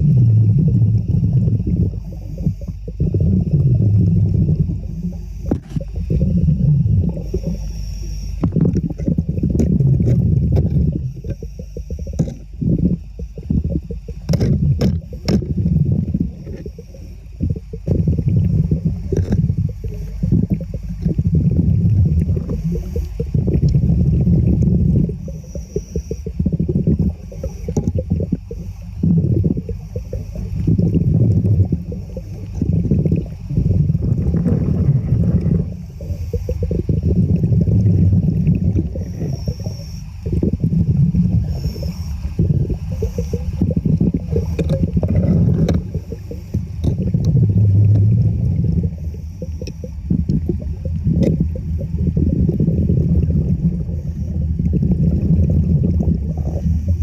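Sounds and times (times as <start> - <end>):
underwater sloshing and gurgling: 0.0 - 57.0.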